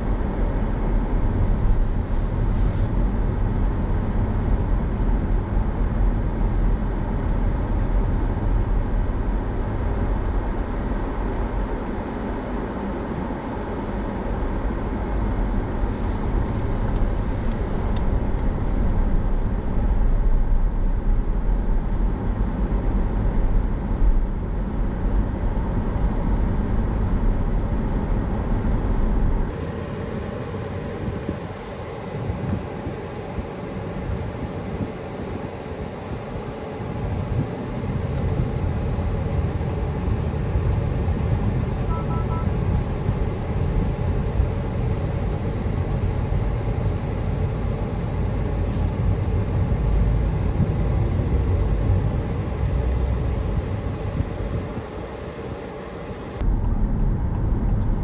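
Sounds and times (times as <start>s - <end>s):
car tyre and wind rumble: 0.0s - 58.0s.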